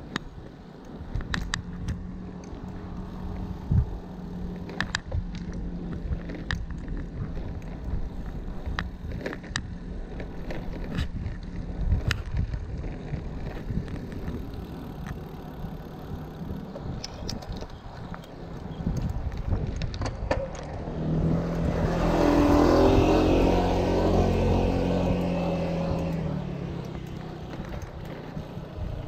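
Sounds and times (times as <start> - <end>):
bicycle clicks and rattles: 0.0 - 29.0
road and wind rumble: 0.0 - 29.0.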